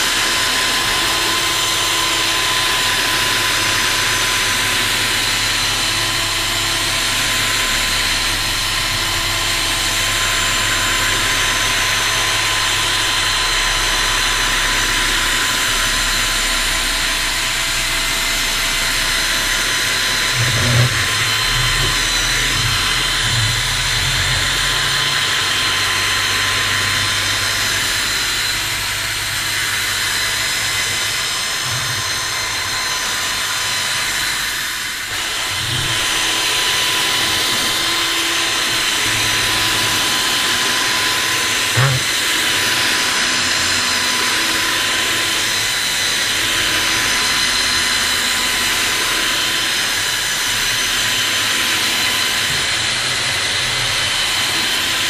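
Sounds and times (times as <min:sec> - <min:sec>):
power drill scrubbing brush whine: 0:00.0 - 0:55.0.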